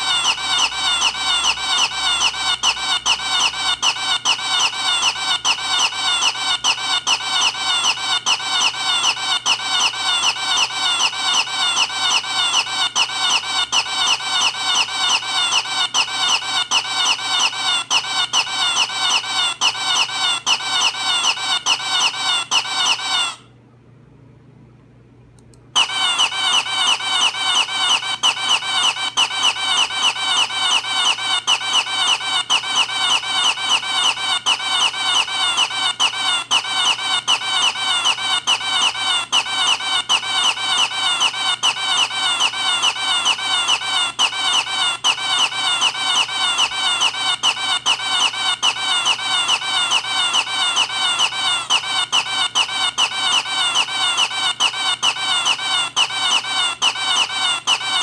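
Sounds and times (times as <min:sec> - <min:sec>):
repeated squeaky squawking: 0:00.0 - 0:23.5, 0:25.8 - 0:58.0.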